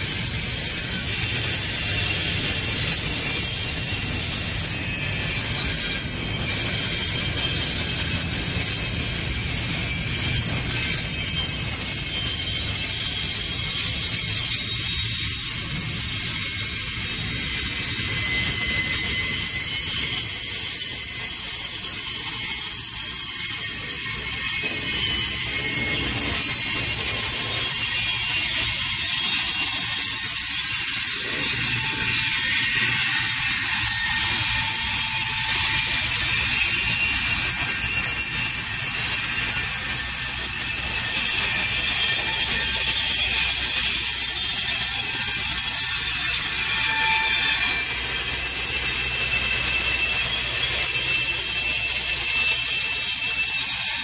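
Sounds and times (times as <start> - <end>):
high-pitched wheel squealing: 0.0 - 54.0
train wheels rumbling on rails: 0.0 - 54.0.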